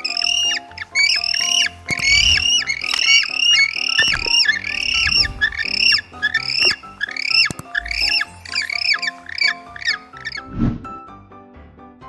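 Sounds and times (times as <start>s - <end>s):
penguin calls: 0.0s - 10.5s
background music with bass: 0.0s - 12.0s.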